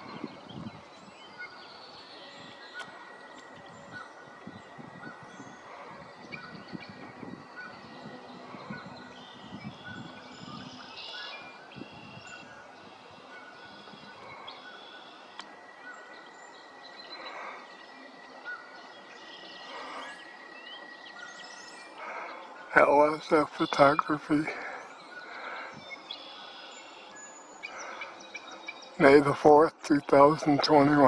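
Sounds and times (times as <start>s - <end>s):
bird chirps and calls: 0.0s - 31.0s.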